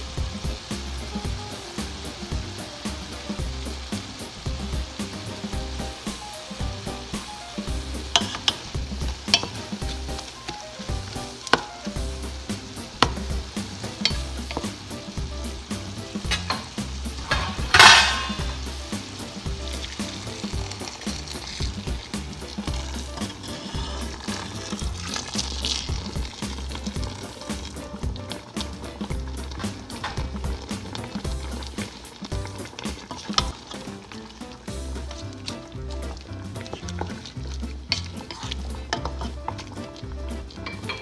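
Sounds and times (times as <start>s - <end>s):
food sizzling in pot: 0.0s - 41.0s
water pouring into pot: 0.0s - 41.0s.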